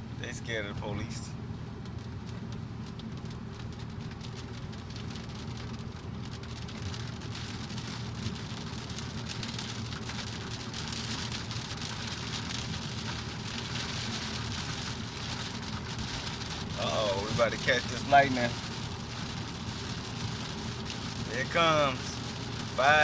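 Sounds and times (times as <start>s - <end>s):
heavy rain: 2.9s - 23.0s.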